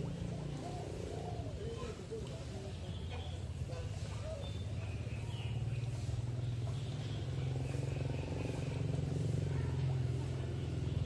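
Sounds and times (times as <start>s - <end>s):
engine droning: 0.0s - 1.6s, 2.9s - 11.0s.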